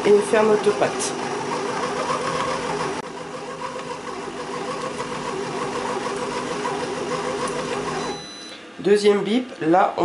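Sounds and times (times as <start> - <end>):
multicooker motor humming: 0.0 - 8.8.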